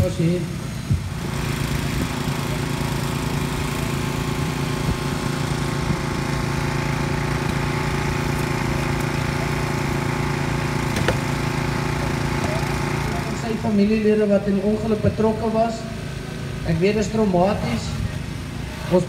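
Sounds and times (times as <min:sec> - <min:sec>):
small engine running steadily: 0:00.0 - 0:19.0.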